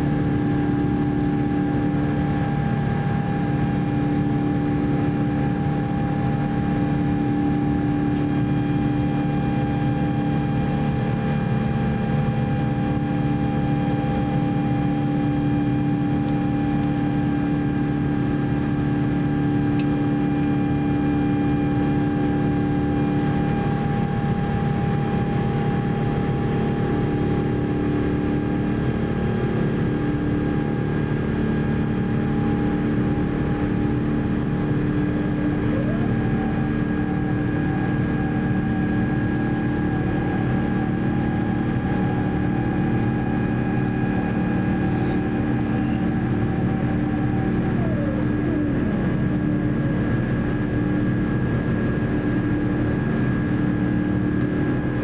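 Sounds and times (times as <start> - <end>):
airflow rushing in aircraft cabin: 0.0 - 55.0
jet engine noise: 0.0 - 55.0
steady hum tones: 0.0 - 55.0.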